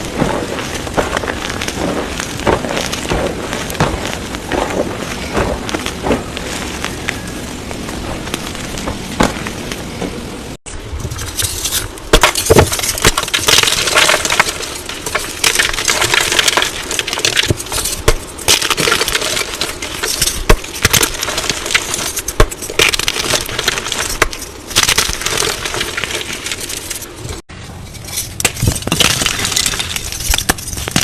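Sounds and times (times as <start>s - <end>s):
chalk crunching and crackling: 0.0s - 9.9s, 11.1s - 31.0s.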